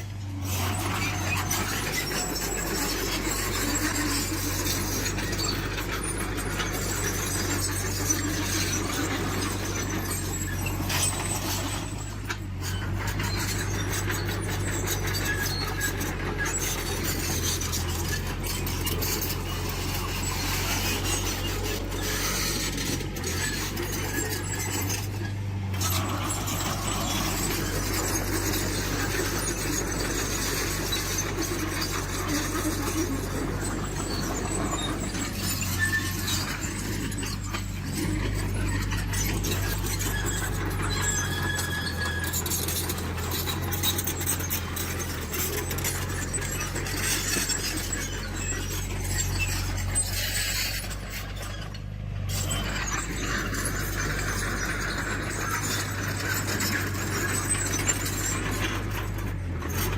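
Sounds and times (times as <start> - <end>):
diesel engine hum: 0.0 - 59.9
high metallic squealing: 0.2 - 59.9.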